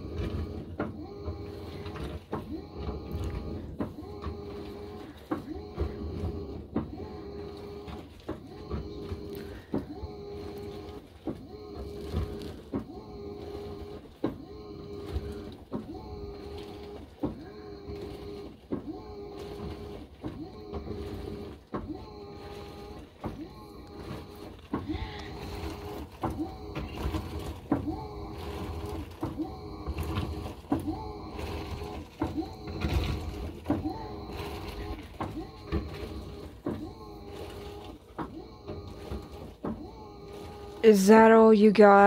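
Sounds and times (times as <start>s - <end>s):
washing machine motor humming: 0.0s - 42.0s.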